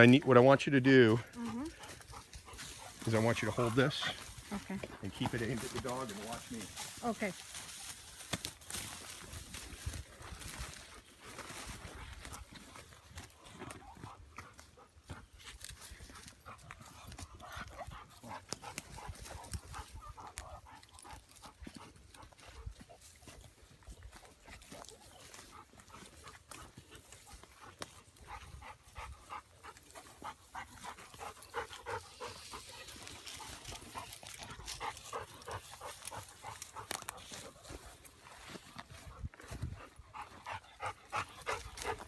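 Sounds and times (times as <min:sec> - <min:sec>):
footsteps on dry pine needles: 0:00.0 - 0:42.0
dog panting: 0:00.9 - 0:07.1, 0:10.2 - 0:42.0.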